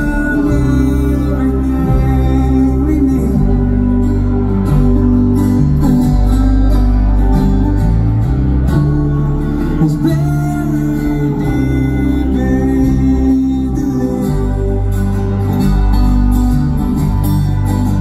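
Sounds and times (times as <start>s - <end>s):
person singing: 0.0s - 16.3s
heavy steady bass: 0.0s - 18.0s
strummed acoustic guitar: 0.0s - 18.0s.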